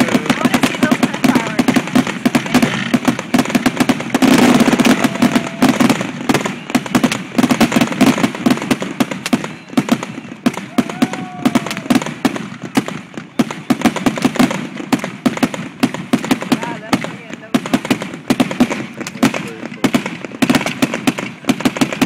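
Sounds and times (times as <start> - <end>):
fireworks crackling and popping: 0.0 - 22.0.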